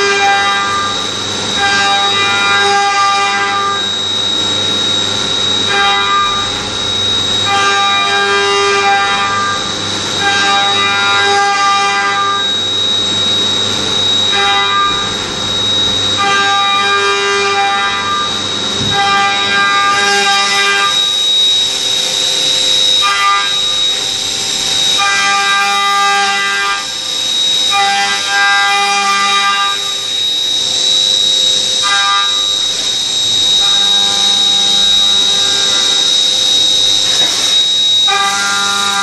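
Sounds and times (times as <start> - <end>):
high-pitched spindle whine: 0.0 - 39.0
multi-tone cutting whine: 0.0 - 39.0.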